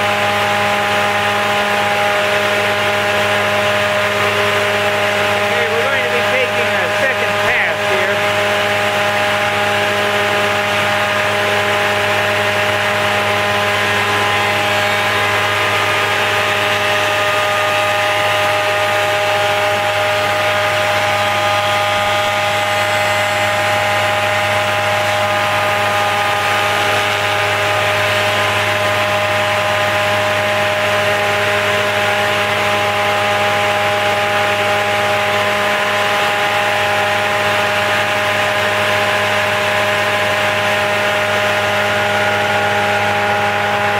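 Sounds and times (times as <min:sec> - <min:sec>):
spindle moulder hum and whine: 0:00.0 - 0:43.9.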